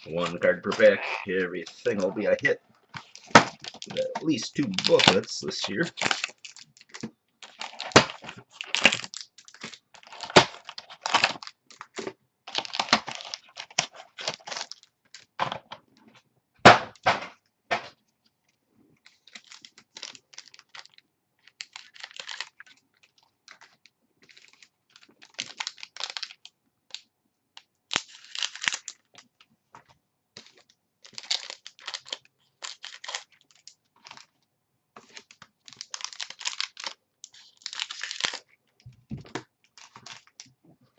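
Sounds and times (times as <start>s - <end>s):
wrappers and cardboard crinkling: 0.0s - 15.4s, 19.0s - 27.1s, 27.9s - 40.9s.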